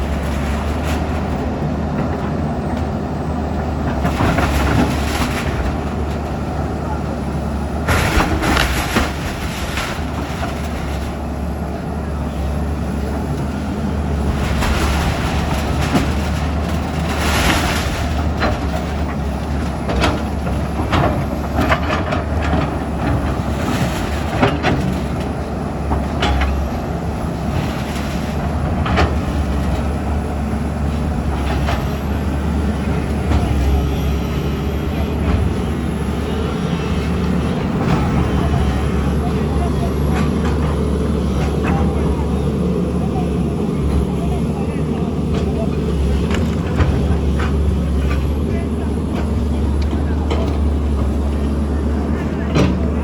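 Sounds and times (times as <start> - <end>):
demolition machinery engine drone: 0.0 - 53.0.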